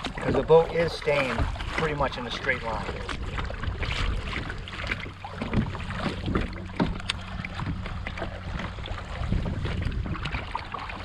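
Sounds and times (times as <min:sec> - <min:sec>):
paddle splashing in water: 0:00.0 - 0:11.0
wind rumbling on microphone: 0:00.0 - 0:11.0.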